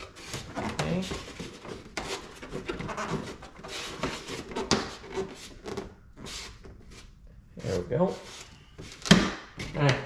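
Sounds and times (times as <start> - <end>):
plastic part rubbing and scraping: 0.0 - 9.1.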